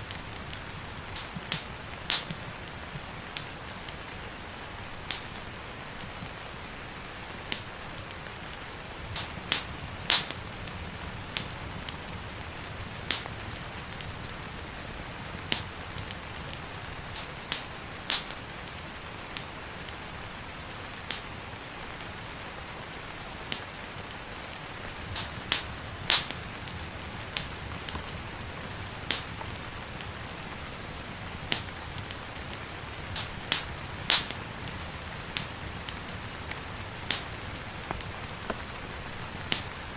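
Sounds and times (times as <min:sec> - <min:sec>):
gentle rain hissing: 0:00.0 - 0:39.9
wood fire crackling and popping: 0:00.0 - 0:39.9.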